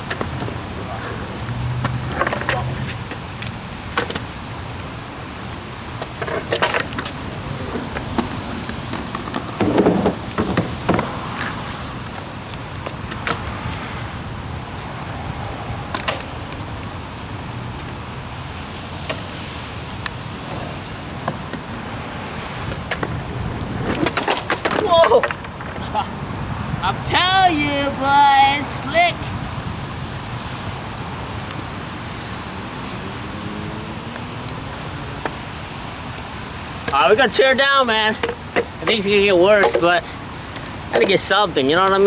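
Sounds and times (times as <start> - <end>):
passing traffic: 0.0 - 42.0
rain hiss: 0.0 - 42.0
skateboard knocks and clacks: 0.0 - 42.0.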